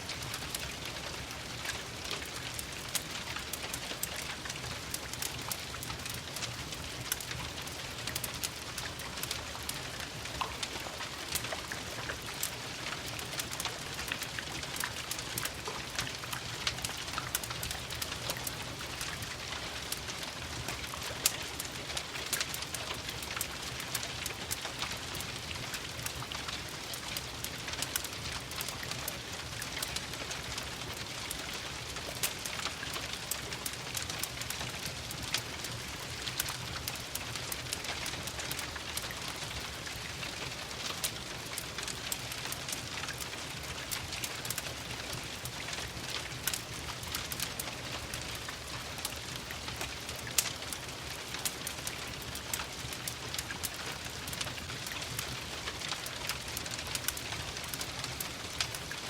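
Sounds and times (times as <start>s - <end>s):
steady rain: 0.0s - 59.0s
wood fire crackling: 0.0s - 59.0s.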